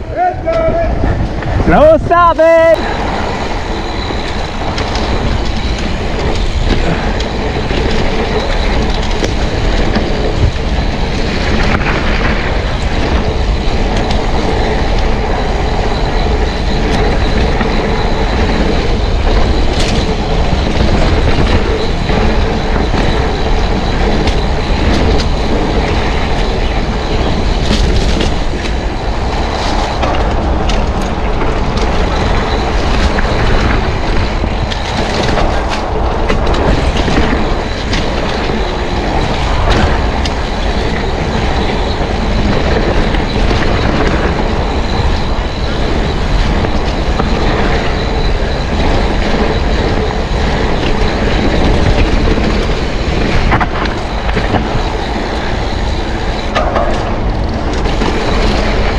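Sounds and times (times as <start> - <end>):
bike rattling and clicking: 0.0 - 58.9
mountain bike tyres rumbling: 0.0 - 58.9.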